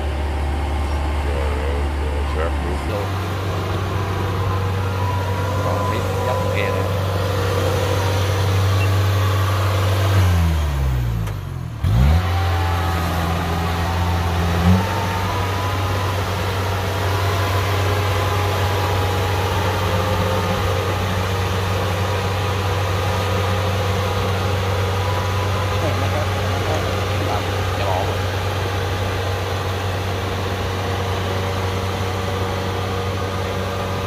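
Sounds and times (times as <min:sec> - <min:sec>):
combine harvester engine humming: 0:00.0 - 0:34.0.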